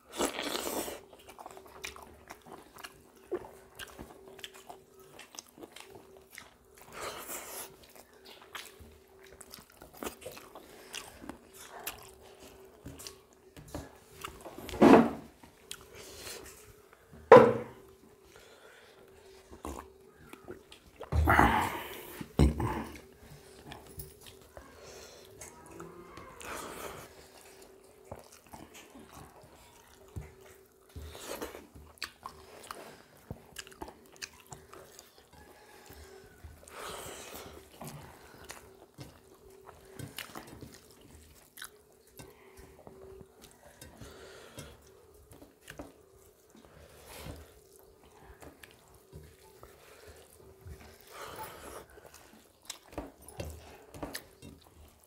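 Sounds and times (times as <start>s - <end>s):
soft wet chewing: 0.0s - 55.0s.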